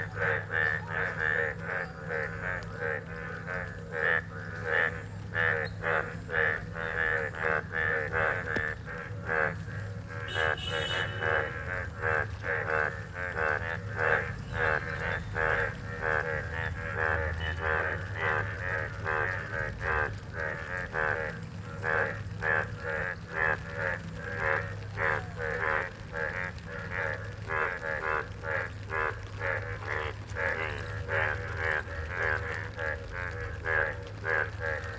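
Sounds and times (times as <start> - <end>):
frogs croaking in chorus: 0.0 - 34.9.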